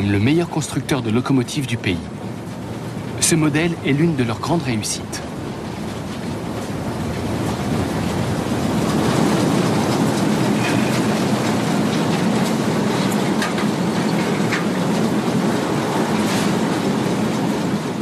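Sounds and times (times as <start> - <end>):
rail clicks: 0.0 - 18.0
steam locomotive running: 0.0 - 18.0.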